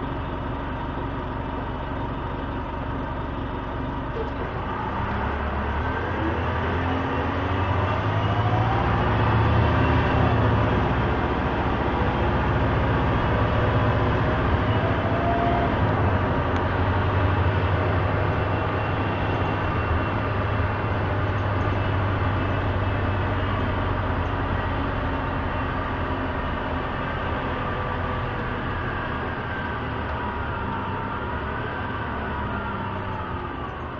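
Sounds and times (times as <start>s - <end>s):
bus engine drone: 0.0s - 33.9s.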